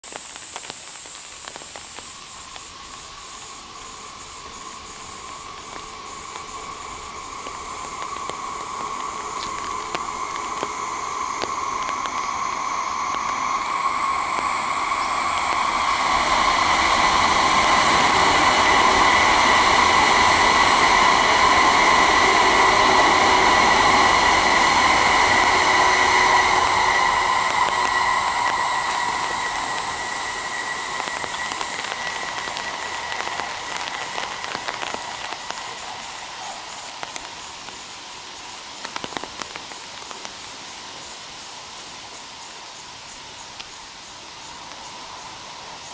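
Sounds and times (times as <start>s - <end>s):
high-speed train running noise: 0.1s - 45.9s
sustained whine: 0.2s - 45.9s.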